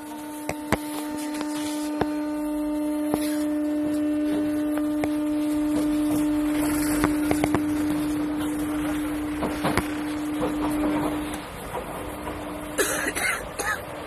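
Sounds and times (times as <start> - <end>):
train traction whine: 0.0 - 14.0
wheel and rail noise: 0.0 - 14.0.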